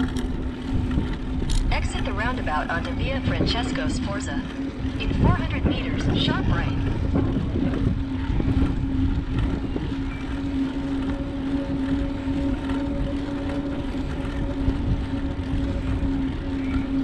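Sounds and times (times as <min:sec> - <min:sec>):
steady low hum: 0:00.0 - 0:17.0
wind over microphone: 0:00.0 - 0:17.0.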